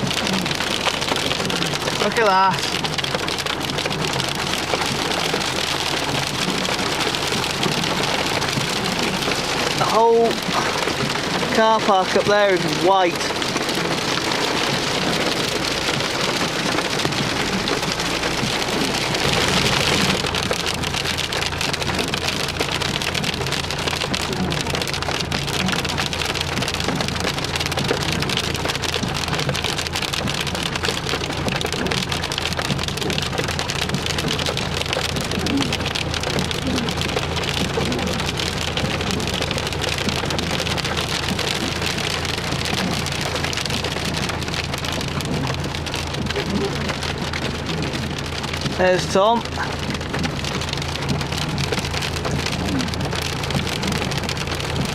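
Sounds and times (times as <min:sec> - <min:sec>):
hail drumming on car roof: 0:00.0 - 0:54.9.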